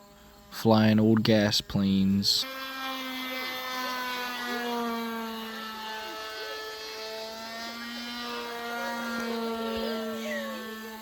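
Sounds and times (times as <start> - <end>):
model airplane engine buzzing: 0.0 - 11.0.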